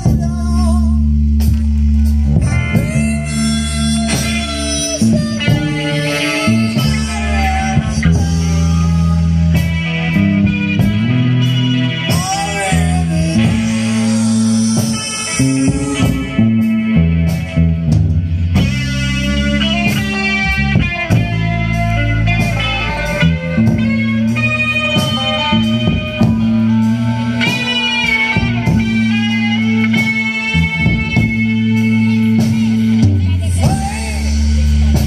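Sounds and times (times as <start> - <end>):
electric guitar bending notes: 0.0 - 35.0
live rock band playing: 0.0 - 35.0.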